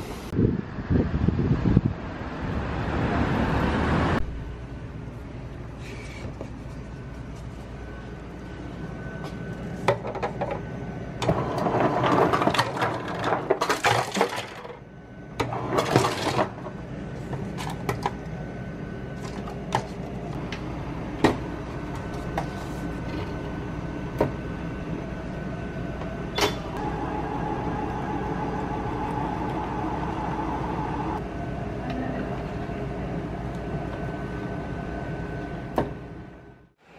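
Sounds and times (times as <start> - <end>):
steady machine hum: 4.1 - 36.9.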